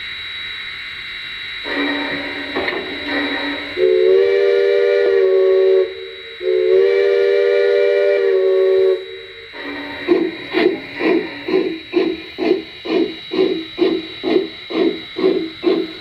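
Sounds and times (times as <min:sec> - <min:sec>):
steam whistle from small speaker: 0:01.6 - 0:16.0.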